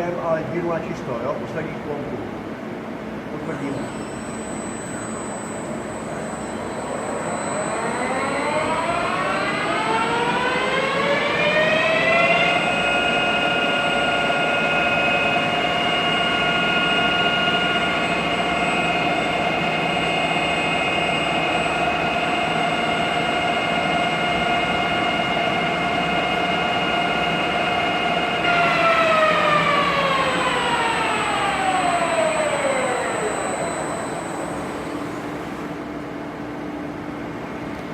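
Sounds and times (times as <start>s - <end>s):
lathe spindle whining: 3.5s - 35.8s.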